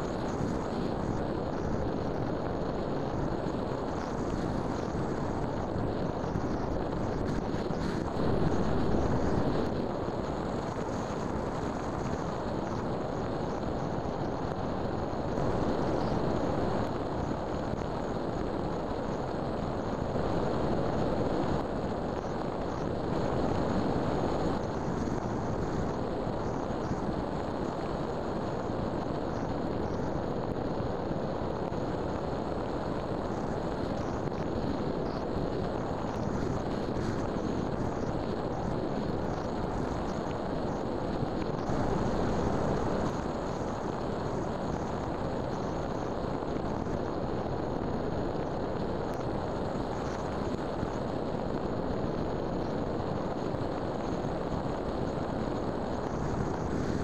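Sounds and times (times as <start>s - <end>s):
faint high whine: 0.0s - 57.0s
wind rush over airframe: 0.0s - 57.0s.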